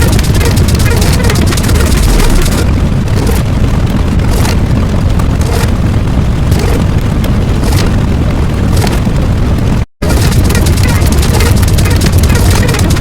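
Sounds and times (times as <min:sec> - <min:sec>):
distorted low rumble: 0:00.0 - 0:13.0.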